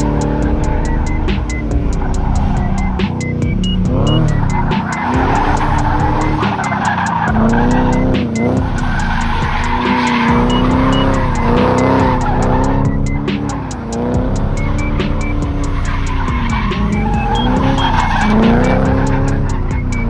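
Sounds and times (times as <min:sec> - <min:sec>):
car engine revving hard: 0:00.0 - 0:20.0
tyres squealing and skidding: 0:00.0 - 0:20.0.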